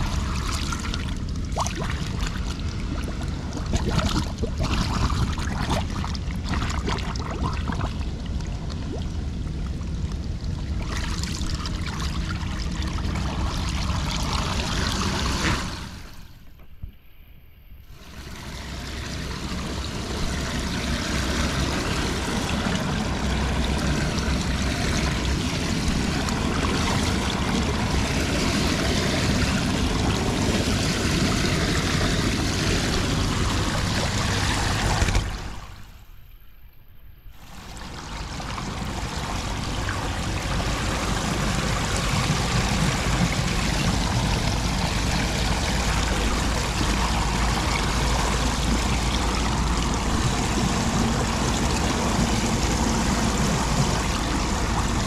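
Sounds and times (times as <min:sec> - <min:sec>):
water pouring through drain grate: 0:00.0 - 0:09.1, 0:10.1 - 0:16.1, 0:17.9 - 0:35.6, 0:37.4 - 0:55.0.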